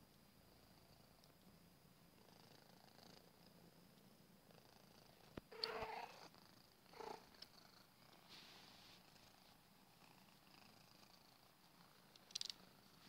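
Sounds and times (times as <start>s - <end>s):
cat purring: 0.4s - 13.0s.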